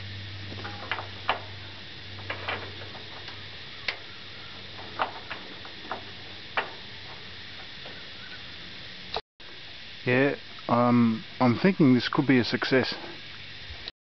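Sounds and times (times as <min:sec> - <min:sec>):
faint low hum: 0:00.0 - 0:13.4.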